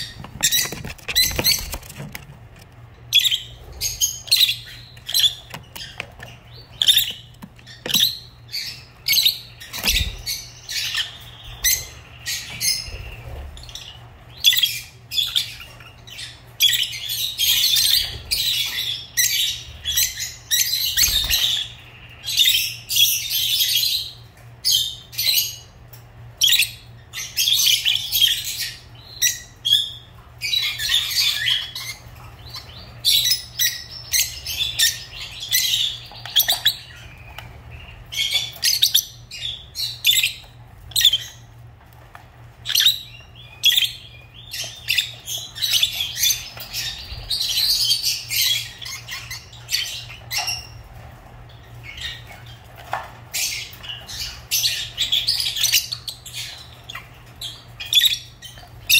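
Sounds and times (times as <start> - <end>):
lovebirds chirping and squawking: 0.0 - 58.9.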